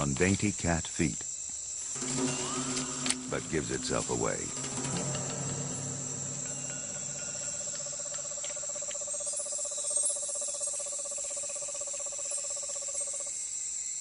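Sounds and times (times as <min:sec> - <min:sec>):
high-pitched insect chirring: 0:01.3 - 0:14.0.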